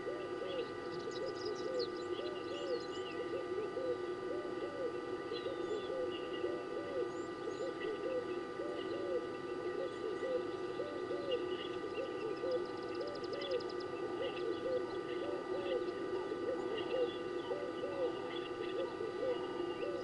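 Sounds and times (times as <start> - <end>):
bird trill: 0.0 - 20.0
doves cooing: 0.0 - 20.0
small birds chirping: 0.0 - 20.0.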